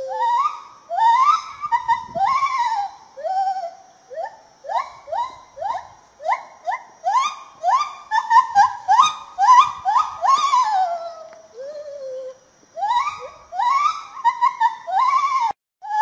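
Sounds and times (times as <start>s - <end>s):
gibbon whooping call: 0.0s - 16.0s.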